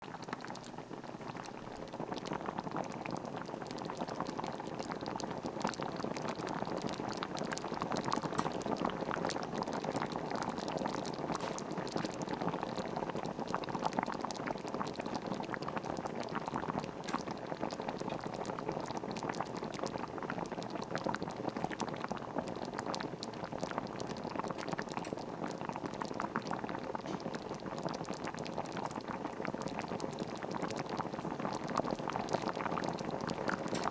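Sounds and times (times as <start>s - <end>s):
soup boiling and bubbling: 0.0s - 33.9s.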